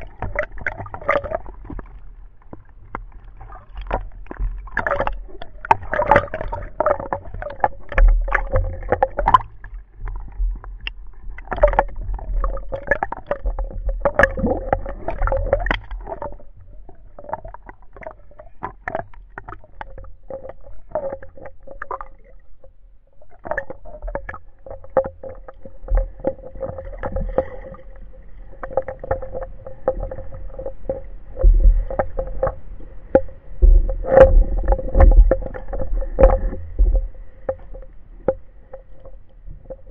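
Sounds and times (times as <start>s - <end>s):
low underwater rumble: 0.0s - 39.9s
underwater clicking and crackling: 0.0s - 39.9s.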